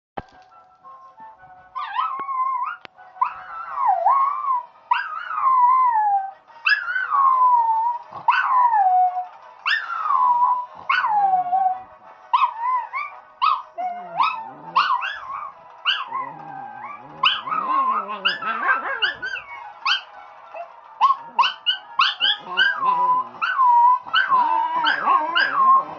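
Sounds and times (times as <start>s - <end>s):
tv theme music: 0.2s - 25.9s
dogs yipping: 1.8s - 6.0s, 6.6s - 25.9s
dogs howling: 1.8s - 25.9s.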